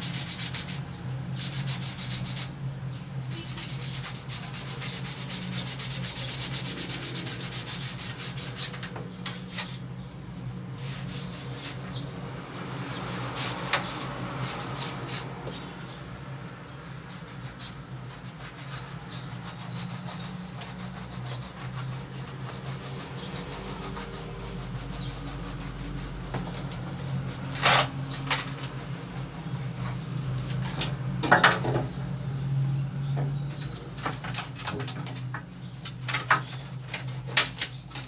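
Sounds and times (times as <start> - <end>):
rubbing and scraping: 0.0 - 2.6, 3.2 - 15.6, 16.8 - 32.0, 33.2 - 38.0.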